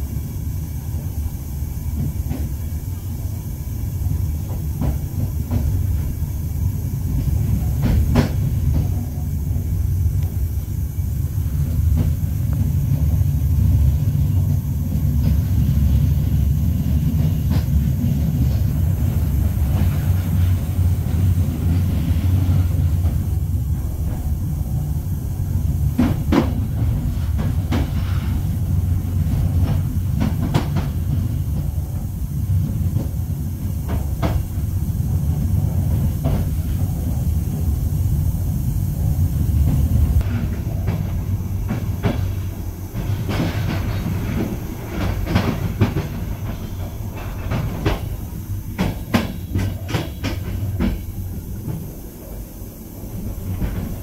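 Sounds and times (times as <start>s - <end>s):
train rumble: 0.0s - 54.0s
wheels clicking over rail joints: 4.0s - 54.0s.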